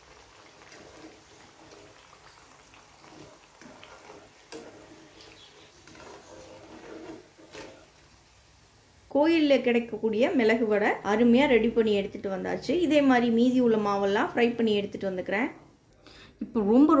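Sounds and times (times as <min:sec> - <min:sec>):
deep-frying bubbling sizzle: 0:00.0 - 0:14.8.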